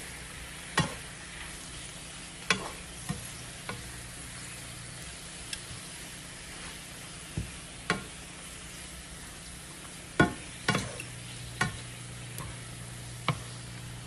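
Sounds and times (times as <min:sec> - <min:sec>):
spinach sizzling in frying pan: 0:00.0 - 0:14.0.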